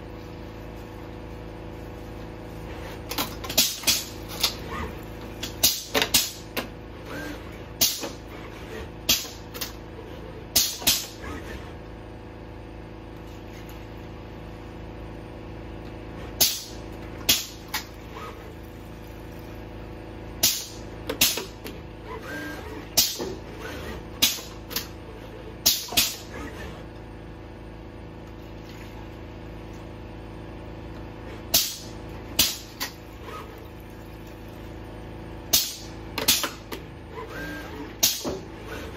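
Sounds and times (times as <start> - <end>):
robot arm electric hum: 0.0 - 38.9.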